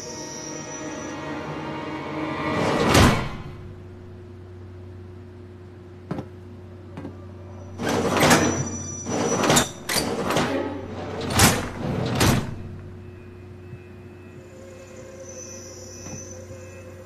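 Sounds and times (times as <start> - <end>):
steady low hum: 0.0 - 7.9, 9.6 - 17.0.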